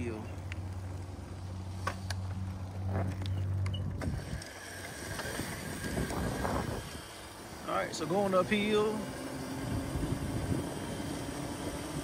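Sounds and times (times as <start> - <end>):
electric motor hum: 0.4 - 12.0.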